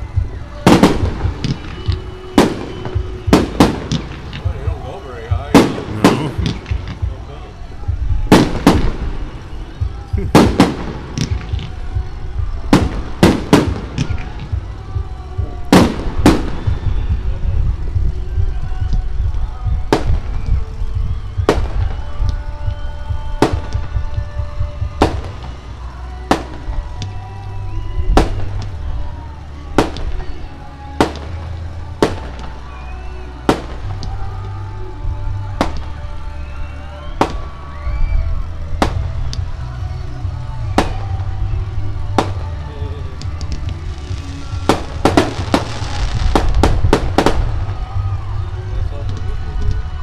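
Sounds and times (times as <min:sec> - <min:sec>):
fireworks booming overhead: 0:00.0 - 0:50.0.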